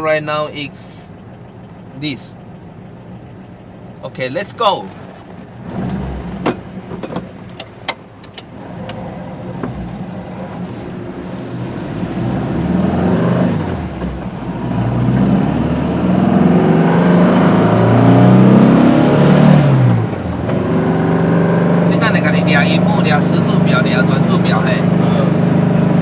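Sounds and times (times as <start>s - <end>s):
car engine revving: 1.2s - 26.0s.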